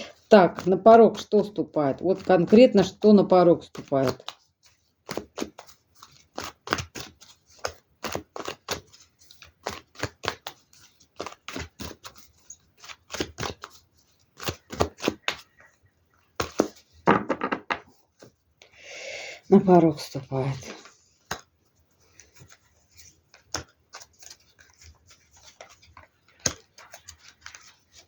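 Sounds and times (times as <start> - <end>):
cards being shuffled: 0.2 - 18.4, 20.1 - 28.0.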